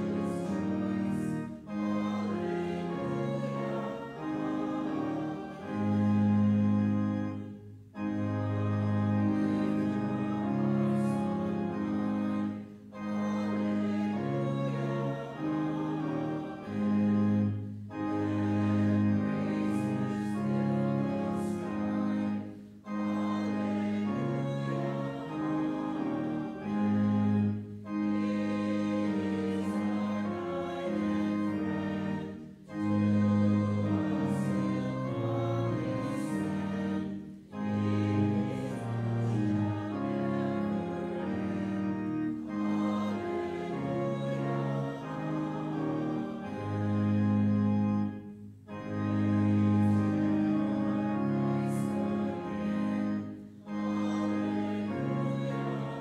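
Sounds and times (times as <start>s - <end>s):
church organ playing a hymn: 0.0s - 56.0s
congregation singing: 0.0s - 56.0s.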